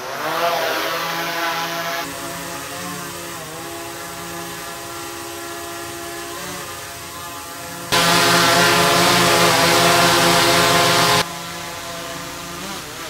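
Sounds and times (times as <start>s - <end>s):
drone propellers humming: 2.0s - 13.0s.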